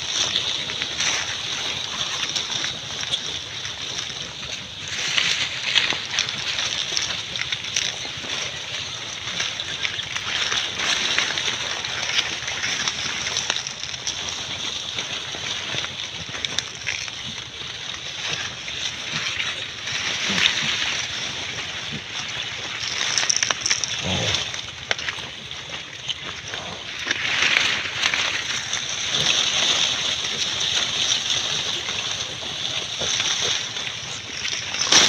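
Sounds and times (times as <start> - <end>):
pigs rustling wet leaves: 0.0 - 35.0.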